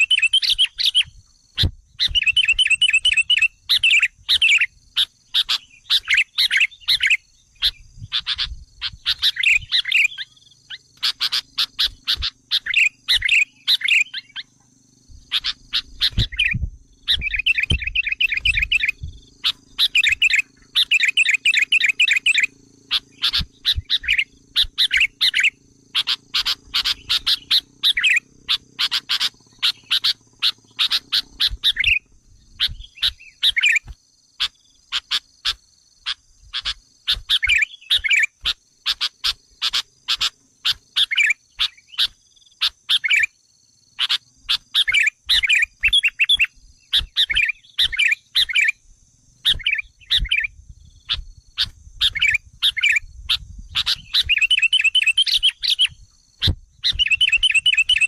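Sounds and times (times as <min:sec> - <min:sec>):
bulbul chattering and trilling: 0:00.0 - 0:48.8, 0:49.4 - 0:58.0.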